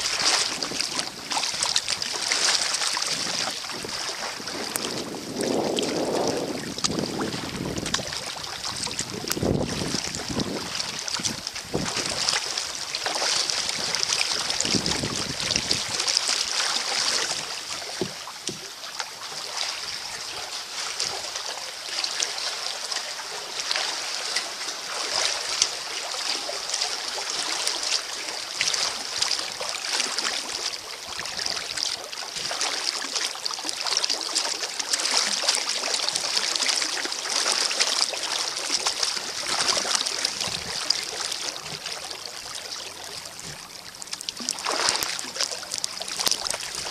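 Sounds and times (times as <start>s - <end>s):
kayak paddle splashing water: 0.0s - 46.9s.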